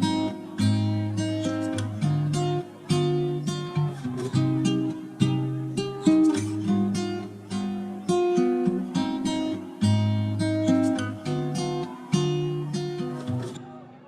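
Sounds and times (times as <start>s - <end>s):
plucked and strummed chords: 0.0s - 14.0s.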